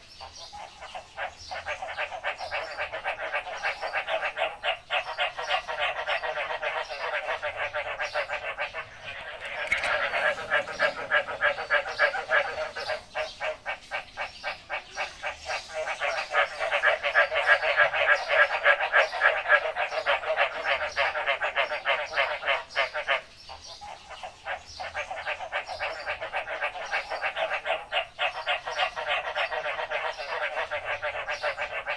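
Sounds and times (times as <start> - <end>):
frogs croaking: 0.0 - 31.9.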